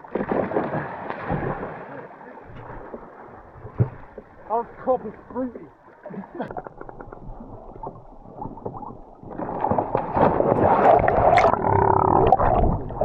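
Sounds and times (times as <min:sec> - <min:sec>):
water churning and gurgling: 0:00.0 - 0:13.0.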